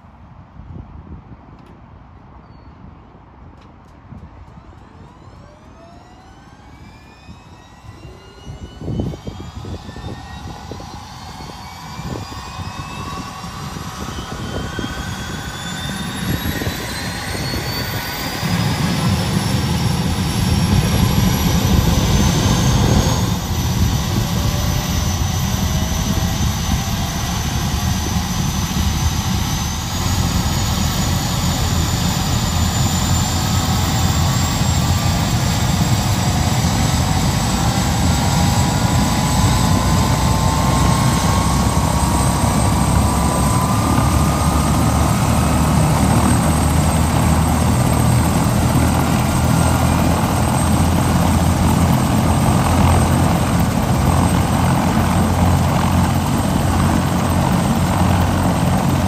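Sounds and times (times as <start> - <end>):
helicopter engine whine: 4.4 - 59.0
helicopter rotor rumble: 4.6 - 59.0.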